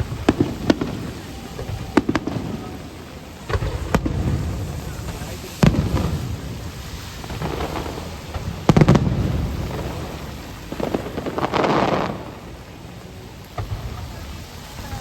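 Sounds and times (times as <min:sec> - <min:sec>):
fireworks bursting: 0:00.0 - 0:15.0
fireworks crackling: 0:00.0 - 0:15.0
rain hissing: 0:00.0 - 0:15.0.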